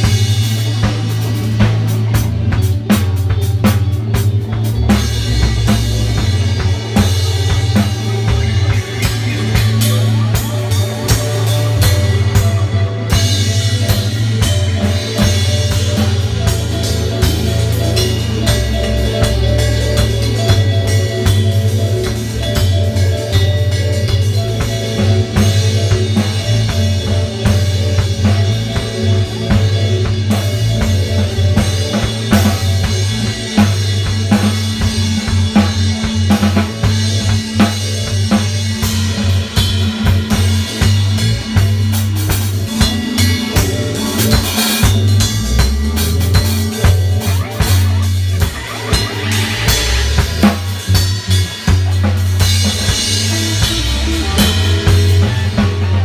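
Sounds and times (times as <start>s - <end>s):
deep bass line: 0.0s - 56.0s
drum beat with snare and rimshot: 0.0s - 56.0s.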